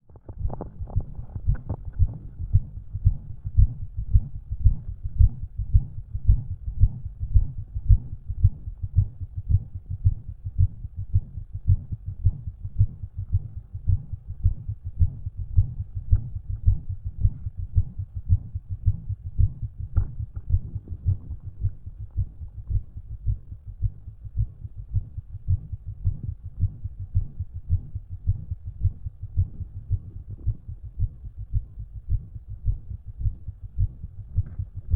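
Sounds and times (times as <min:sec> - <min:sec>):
heartbeat through stethoscope: 0:00.0 - 0:34.9.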